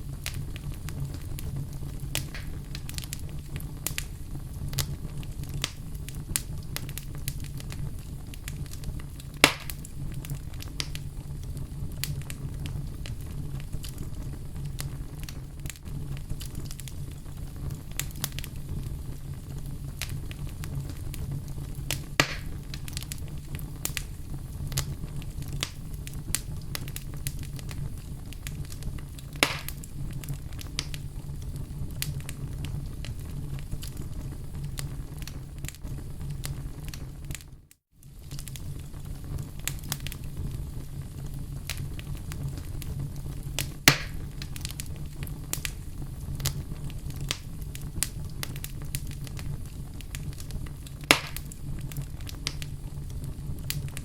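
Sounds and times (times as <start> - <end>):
fireplace fire crackling: 0.0 - 54.0
loud fire pops: 0.0 - 54.0.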